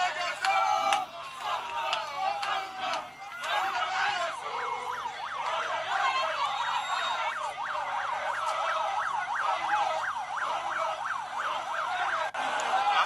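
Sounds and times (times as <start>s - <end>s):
electronic siren yelping: 0.0s - 12.4s.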